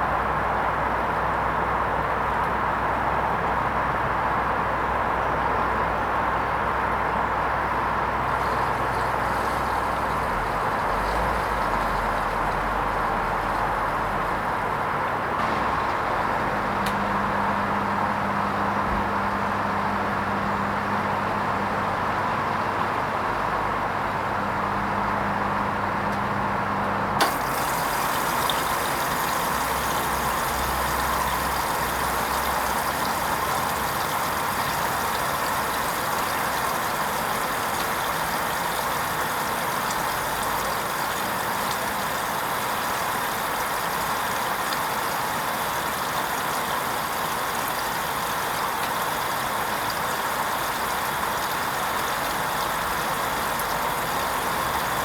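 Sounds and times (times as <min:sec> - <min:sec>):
washing machine hum: 0:00.0 - 0:55.0
water running into machine: 0:07.1 - 0:24.0, 0:27.2 - 0:55.0.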